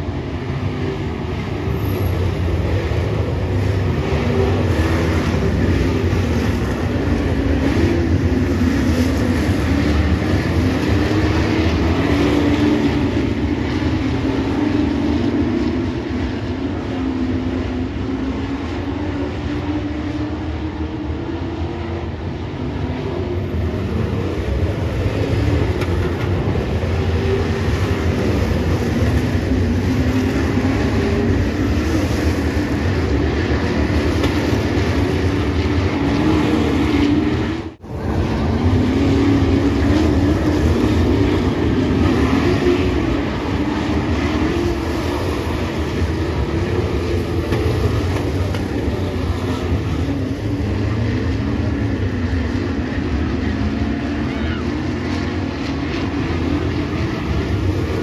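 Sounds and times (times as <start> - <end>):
race truck engines: 0.0 - 58.0.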